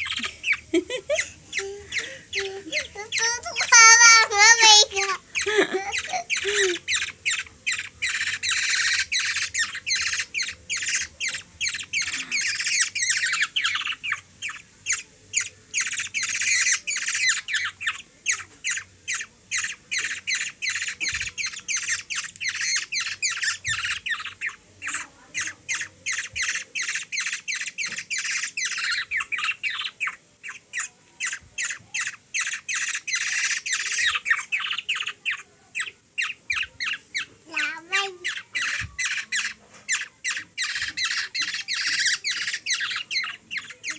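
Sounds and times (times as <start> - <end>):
baby bird begging squawks: 0.0 - 43.9.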